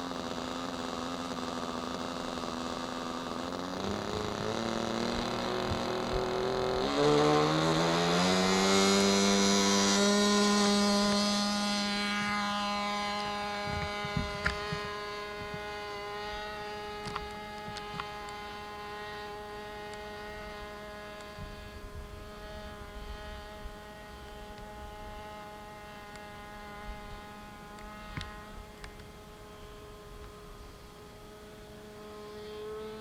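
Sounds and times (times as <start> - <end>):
model airplane engine buzzing: 0.0 - 33.0.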